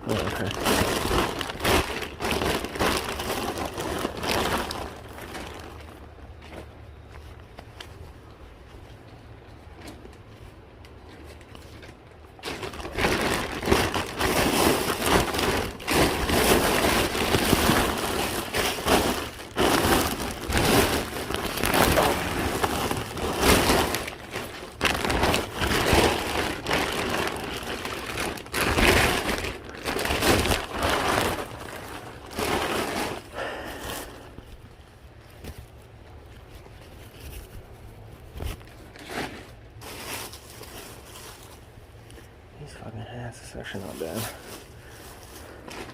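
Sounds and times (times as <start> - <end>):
packaging crinkling and rustling: 0.0 - 42.3.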